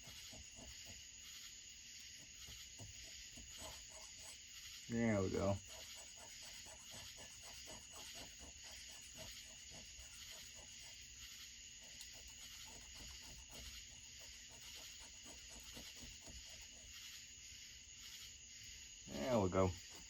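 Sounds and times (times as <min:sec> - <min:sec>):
crickets chirping: 0:00.0 - 0:20.0
quick rhythmic rubbing strokes: 0:00.0 - 0:20.0.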